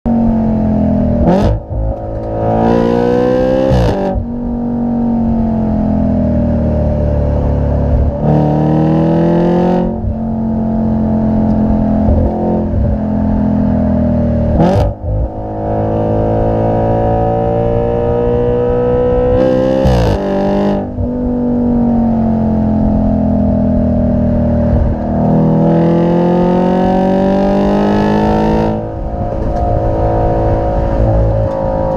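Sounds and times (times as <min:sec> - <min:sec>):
car engine revving: 0:00.1 - 0:31.9.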